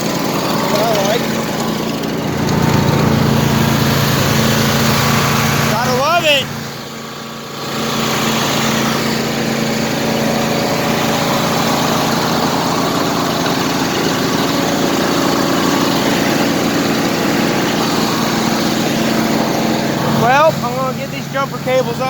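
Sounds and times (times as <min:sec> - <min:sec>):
lawn tractor engine running: 0:00.0 - 0:22.0.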